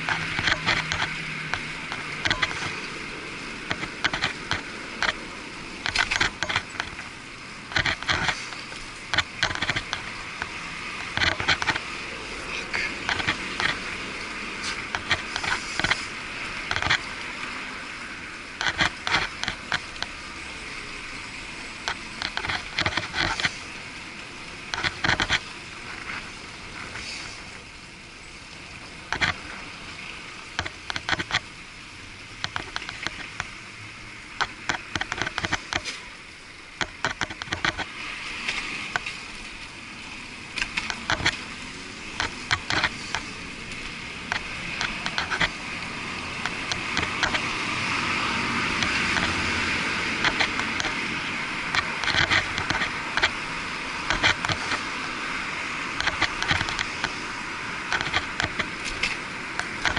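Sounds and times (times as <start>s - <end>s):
bicycle rattling on paving: 0.0s - 20.8s, 21.7s - 27.4s, 36.7s - 59.9s
street traffic noise: 0.0s - 59.9s.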